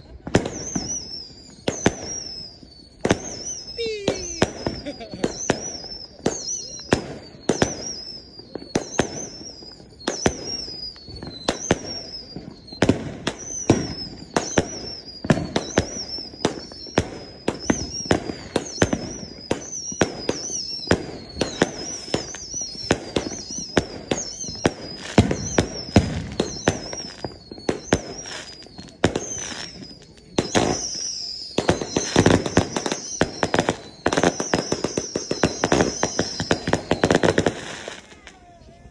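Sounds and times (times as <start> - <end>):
falling firework whistle: 0.0 - 38.9
firework bangs: 0.0 - 38.9
firework crackling: 0.0 - 38.9.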